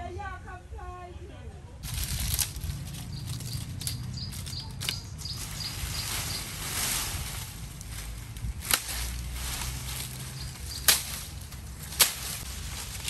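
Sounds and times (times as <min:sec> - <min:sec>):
dry leaves rustling: 0:01.8 - 0:13.0
dry sticks snapping: 0:01.8 - 0:13.0
steady low rumble: 0:01.8 - 0:13.0.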